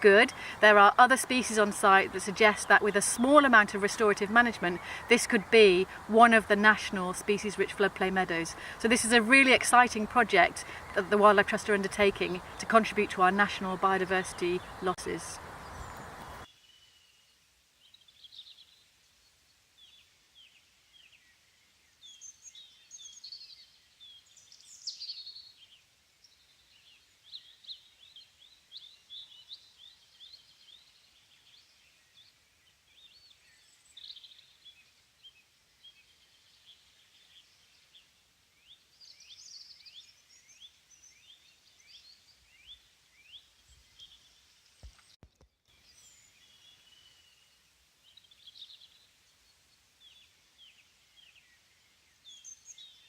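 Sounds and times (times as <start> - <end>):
faint birdsong chirps: 0.0 - 53.0.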